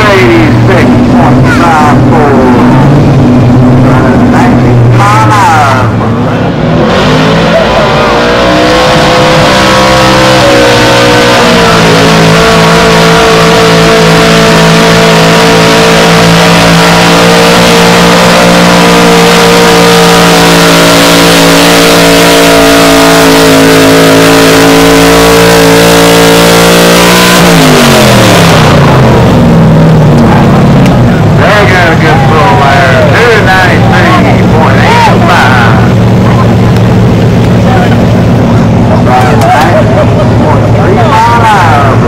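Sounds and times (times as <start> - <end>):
truck engine at high revs: 0.0 - 42.0.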